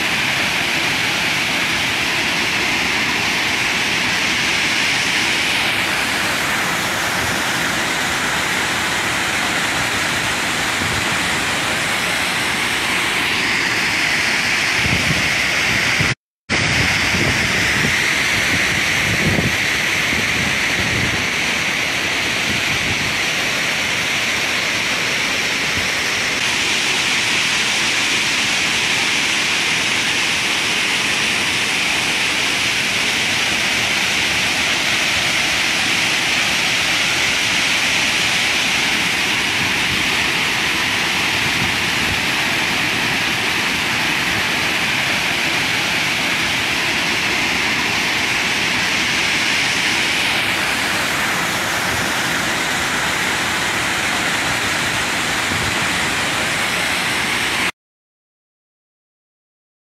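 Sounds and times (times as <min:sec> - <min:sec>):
waterfall rushing over rock: 0:00.0 - 0:57.7.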